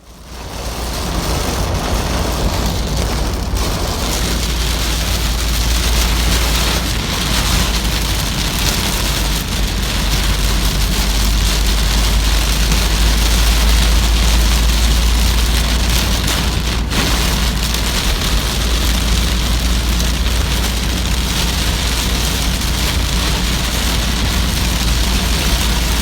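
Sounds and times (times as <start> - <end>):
deep low rumble: 0.0 - 26.0
heavy rain falling: 0.0 - 26.0.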